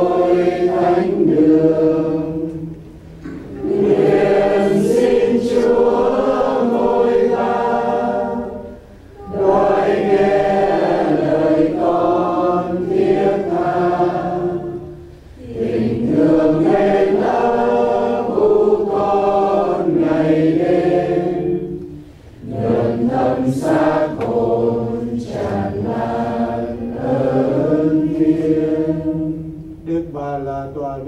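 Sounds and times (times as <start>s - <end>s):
congregation singing a hymn: 0.0s - 30.0s.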